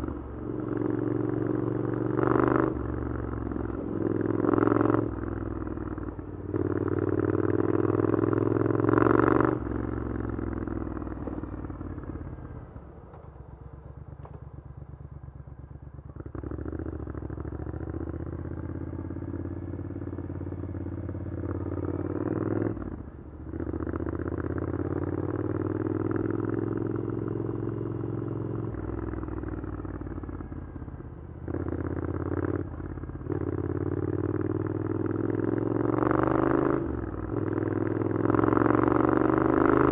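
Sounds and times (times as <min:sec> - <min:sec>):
motorcycle engine revving: 0:00.0 - 0:13.3, 0:15.8 - 0:39.9.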